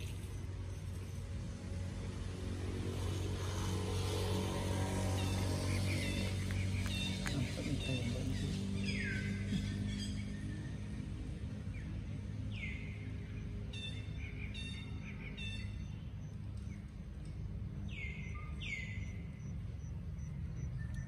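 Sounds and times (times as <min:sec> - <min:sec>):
steady low background hum: 0:00.0 - 0:21.0
birds calling: 0:03.0 - 0:21.0.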